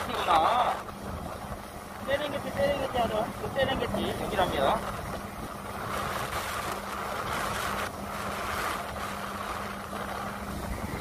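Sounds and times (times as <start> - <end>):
boat engine humming: 0.0 - 11.0
water rushing: 0.0 - 11.0.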